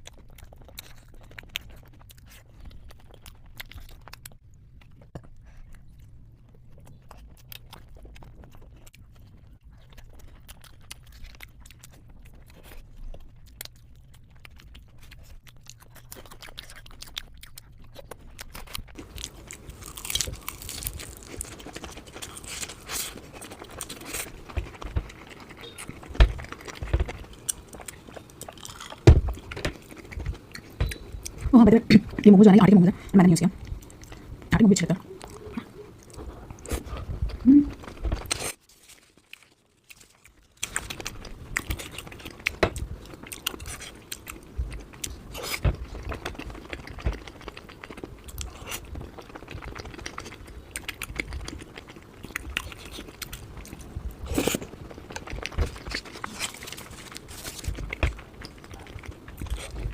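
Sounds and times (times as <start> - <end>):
person chewing food: 0.0 - 59.9.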